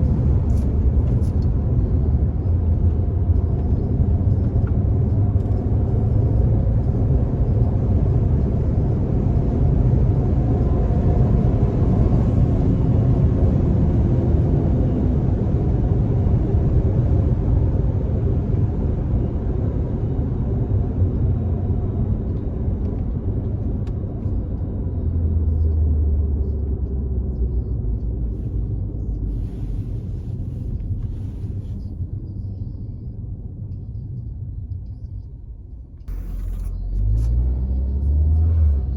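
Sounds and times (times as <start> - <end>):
car engine rumble: 0.0 - 38.9
road noise: 0.0 - 38.9.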